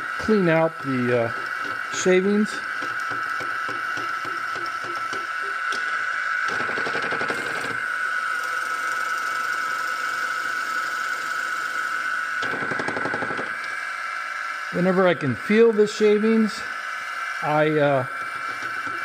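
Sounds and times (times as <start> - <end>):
drill bit boring into wood: 0.0 - 13.8, 17.2 - 19.0
wood lathe high whine: 0.0 - 19.0.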